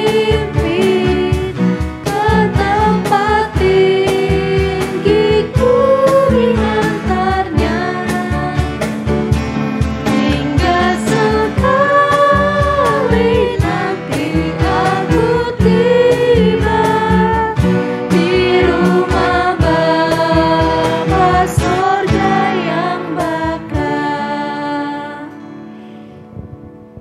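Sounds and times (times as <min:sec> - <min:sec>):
band with steady drumbeat: 0:00.0 - 0:24.0
voices singing worship song: 0:00.0 - 0:25.5.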